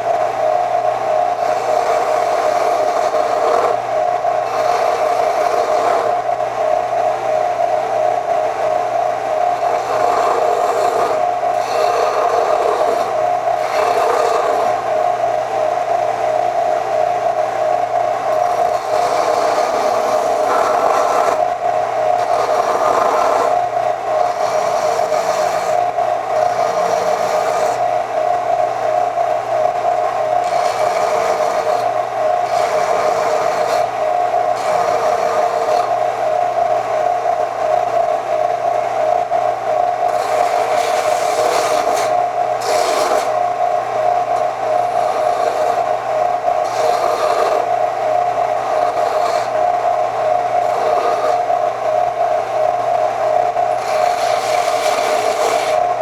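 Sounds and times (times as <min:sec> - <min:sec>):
power tool scraping rust off metal: 0:01.3 - 0:06.3, 0:09.5 - 0:15.3, 0:18.2 - 0:36.5, 0:39.8 - 0:56.0.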